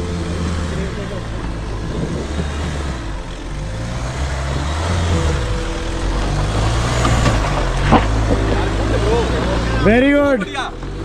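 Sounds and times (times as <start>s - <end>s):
vehicle engine at low revs: 0.0s - 11.0s.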